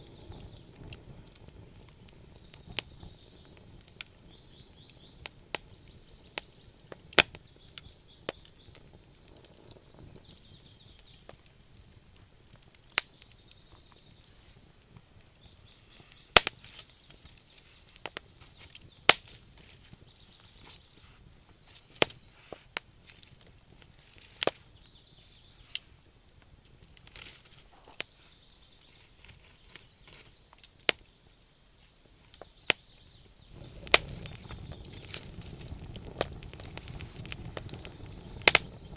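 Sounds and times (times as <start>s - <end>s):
faint hiss: 0.0s - 38.9s
wood fire crackling: 0.0s - 38.9s.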